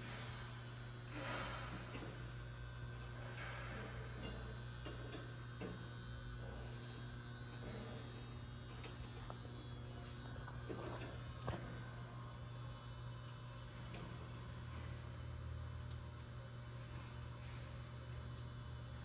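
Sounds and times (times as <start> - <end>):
machine electric hum: 0.0 - 19.0.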